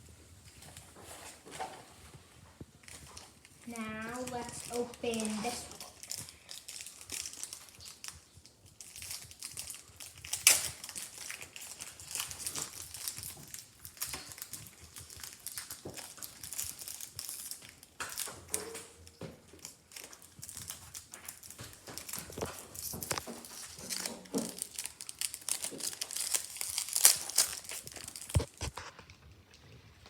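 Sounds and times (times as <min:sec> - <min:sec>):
foil wrapper crinkling and tearing: 0:02.8 - 0:29.2.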